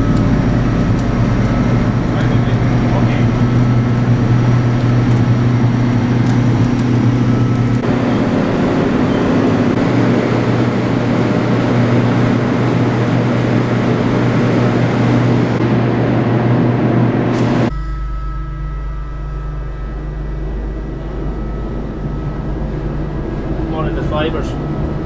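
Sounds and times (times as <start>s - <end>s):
deck machinery hum and rumble: 0.0s - 17.8s, 18.6s - 25.0s.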